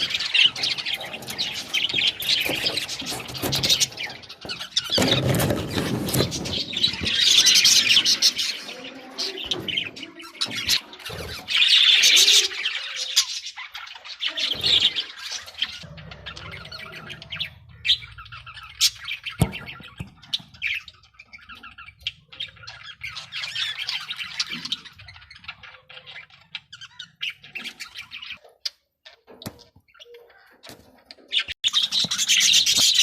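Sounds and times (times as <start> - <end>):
budgies chirping and chattering: 0.0 - 33.0.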